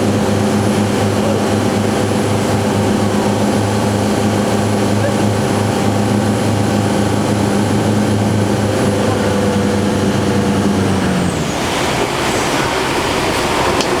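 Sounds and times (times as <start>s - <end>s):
motorboat engine: 0.0s - 14.0s
rushing water noise: 0.0s - 14.0s.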